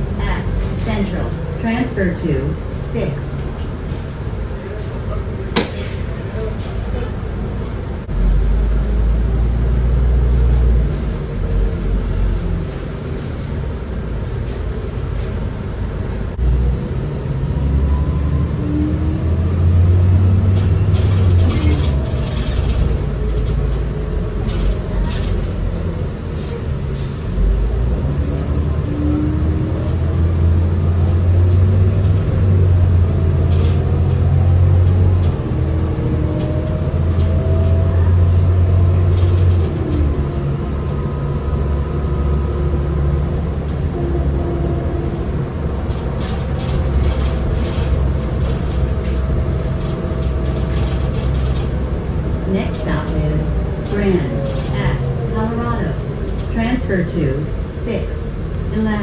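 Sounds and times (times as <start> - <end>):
bus engine rumbling and revving: 0.0 - 59.0.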